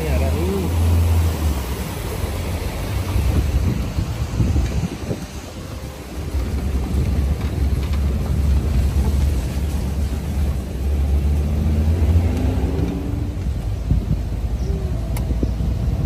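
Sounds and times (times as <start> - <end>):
jeep engine and road rumble: 0.0 - 16.0.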